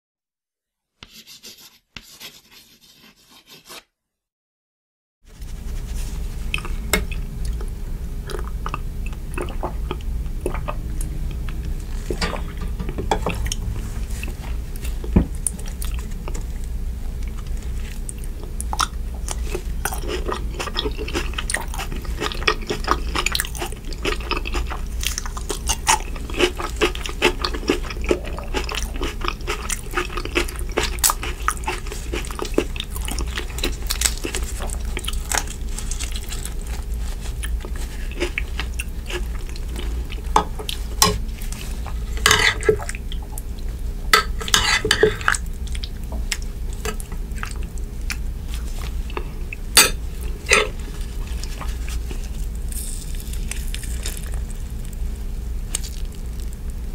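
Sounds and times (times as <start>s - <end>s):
steady low hum: 5.3s - 56.9s.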